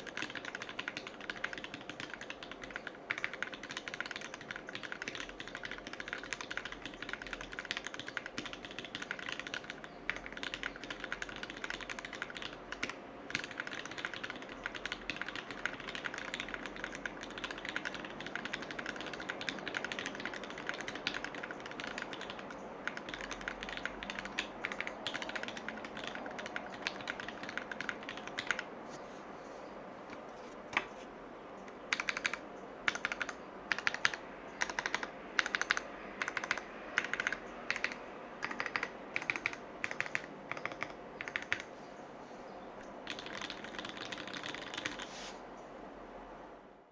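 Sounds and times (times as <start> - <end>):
mechanical keyboard typing: 0.0 - 28.7, 31.7 - 41.7, 43.0 - 45.1.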